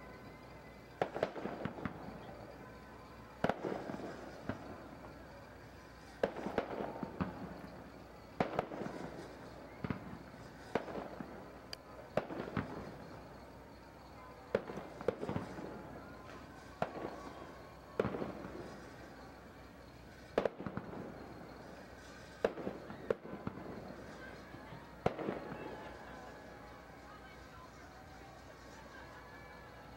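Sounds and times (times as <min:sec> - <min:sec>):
fireworks bangs: 0:00.0 - 0:29.9.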